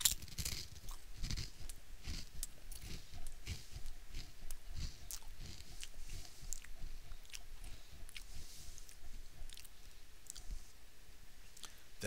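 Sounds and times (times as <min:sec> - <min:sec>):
man chewing crunchy chips: 0:00.0 - 0:10.6, 0:11.6 - 0:11.8.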